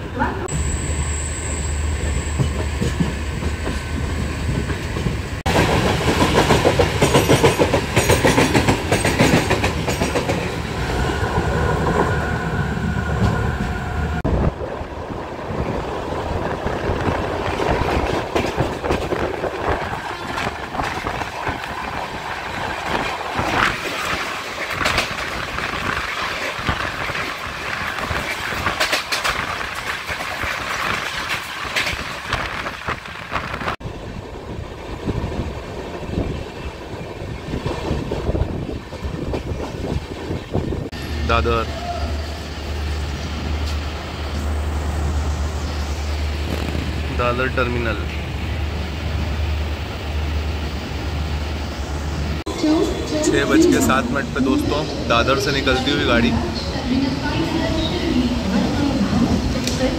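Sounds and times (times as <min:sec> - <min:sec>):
train clattering on track: 0:02.0 - 0:42.0, 0:45.6 - 0:49.0, 0:52.4 - 0:59.9.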